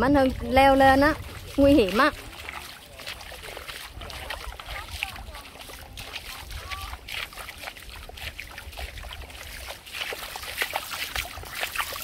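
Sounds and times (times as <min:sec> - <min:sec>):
small water splashes: 0:00.0 - 0:12.0
stream water trickling: 0:00.0 - 0:12.0.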